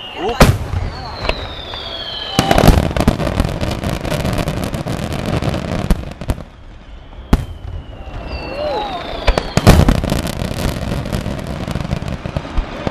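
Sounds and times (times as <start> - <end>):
fireworks bursts and cracks: 0.0 - 12.9.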